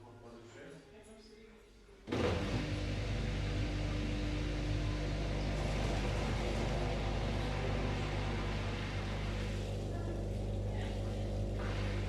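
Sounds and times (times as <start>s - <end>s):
washing machine humming: 2.1s - 12.0s.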